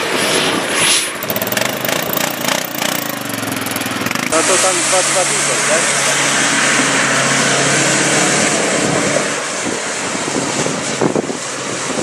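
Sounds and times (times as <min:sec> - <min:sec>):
engine running at high revs: 0:01.0 - 0:12.0.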